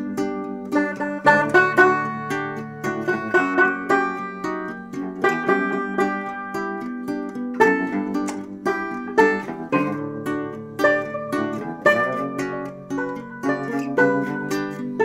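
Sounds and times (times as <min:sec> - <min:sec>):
plucked string tune: 0:00.0 - 0:15.0.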